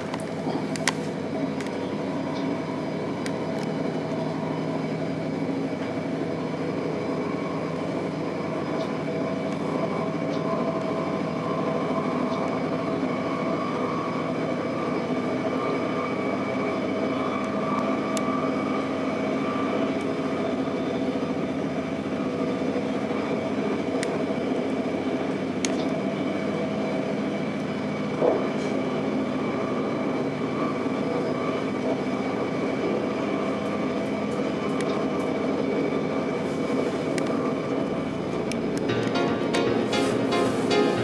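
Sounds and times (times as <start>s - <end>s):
diesel train hum: 0.0s - 41.0s
wheels rumbling on rails: 0.0s - 41.0s.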